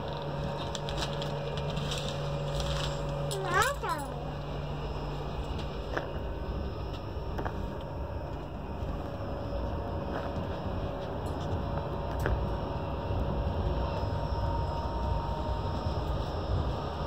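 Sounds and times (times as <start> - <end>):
train coach rumble: 0.0 - 17.0.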